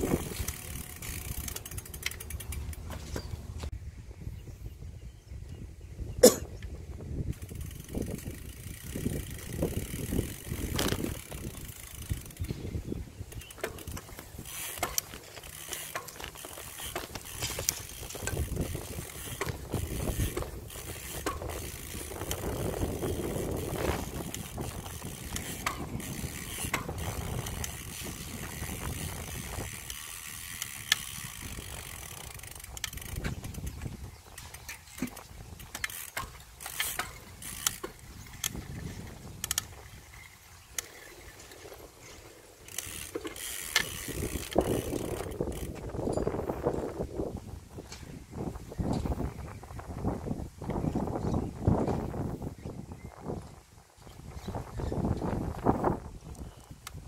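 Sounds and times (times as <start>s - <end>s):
bicycle clicks and rattles: 0.0s - 3.8s, 5.4s - 57.0s.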